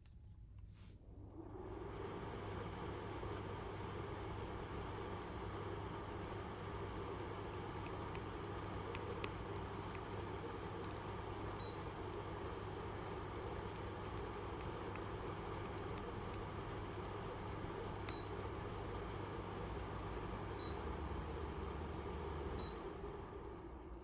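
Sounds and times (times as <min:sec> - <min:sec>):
air conditioner fan rush: 0:00.3 - 0:24.0.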